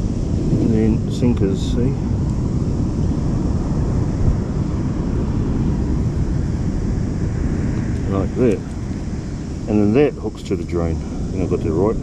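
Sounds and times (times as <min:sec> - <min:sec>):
surf washing: 0:00.0 - 0:12.0
wind rumble on microphone: 0:00.0 - 0:12.0.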